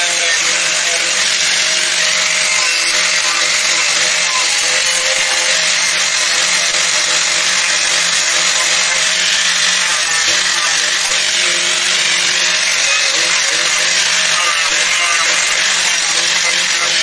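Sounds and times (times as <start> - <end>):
power tool hissing: 0.0 - 17.0.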